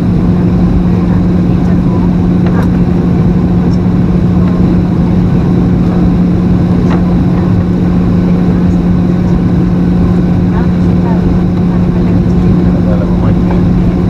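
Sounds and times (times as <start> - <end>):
airplane cabin engine drone: 0.0 - 14.0.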